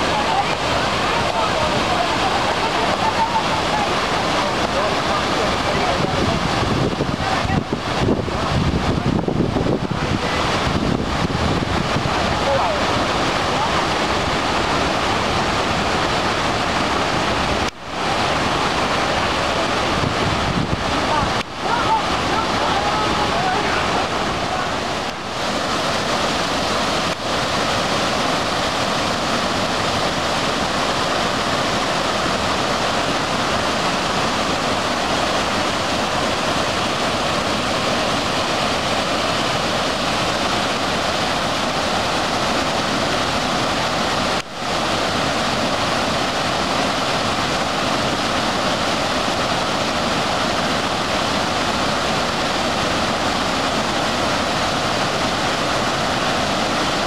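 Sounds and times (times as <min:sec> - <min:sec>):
water rushing over rock ledge: 0:00.0 - 0:57.0.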